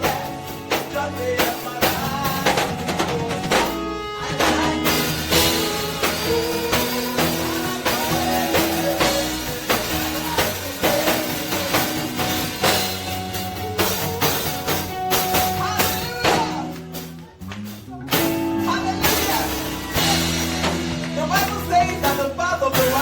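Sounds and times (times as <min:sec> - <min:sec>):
bass: 0:00.0 - 0:23.0
drum kit: 0:00.0 - 0:23.0
guitar: 0:00.0 - 0:23.0
held keyboard chords: 0:00.0 - 0:23.0.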